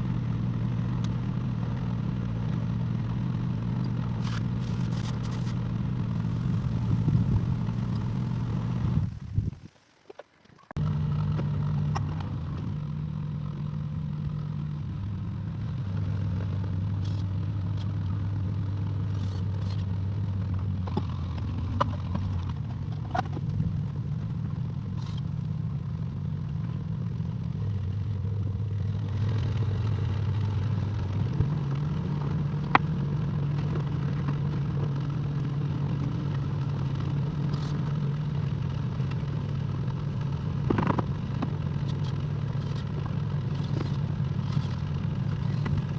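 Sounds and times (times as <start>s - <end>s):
excavator diesel engine running: 0.0s - 9.3s, 10.8s - 45.9s.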